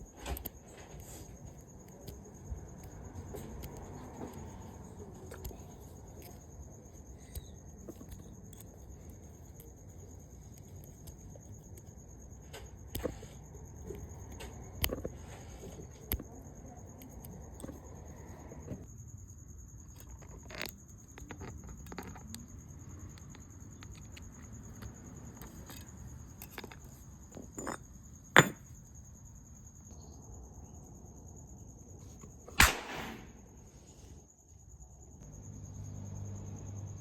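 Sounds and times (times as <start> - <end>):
insect trill: 0.0 - 37.0.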